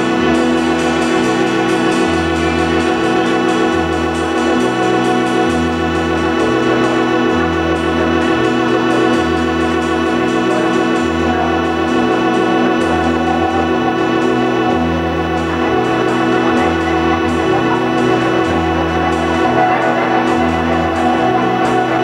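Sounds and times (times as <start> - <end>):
electric bass notes: 0.0 - 22.0
electric organ chord: 0.0 - 22.0.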